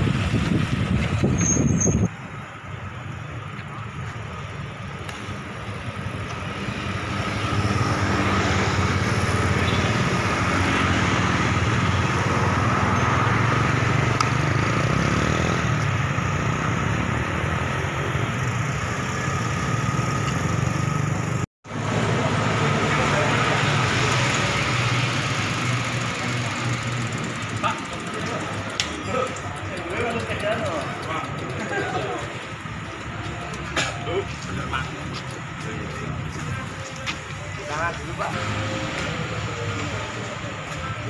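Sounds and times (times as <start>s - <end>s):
motorcycle engines: 0.0s - 41.0s
road traffic noise: 0.0s - 41.0s.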